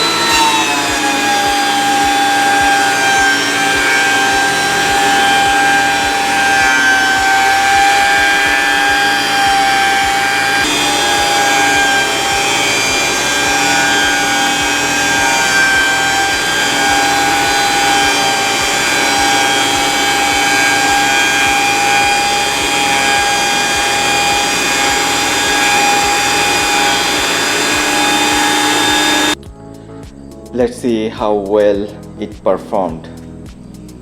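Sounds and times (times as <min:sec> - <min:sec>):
planer motor whining: 0:00.0 - 0:29.4
low regular beat: 0:00.0 - 0:30.9, 0:31.7 - 0:34.0.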